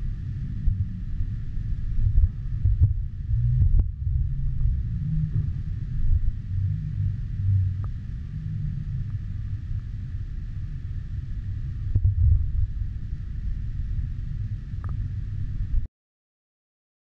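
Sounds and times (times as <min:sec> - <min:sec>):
low uneven rumble: 0:00.0 - 0:15.9.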